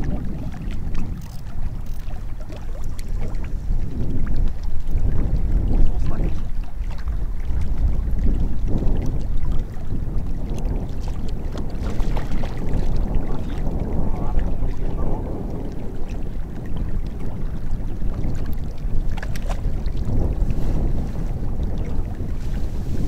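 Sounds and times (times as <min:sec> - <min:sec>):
small waves lapping on rocks: 0:00.0 - 0:23.0
wind on microphone: 0:00.0 - 0:23.0.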